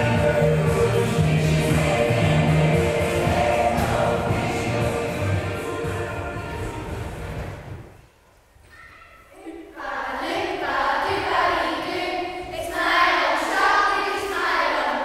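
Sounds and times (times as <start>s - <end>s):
children singing together: 0.0s - 7.0s, 9.4s - 15.0s.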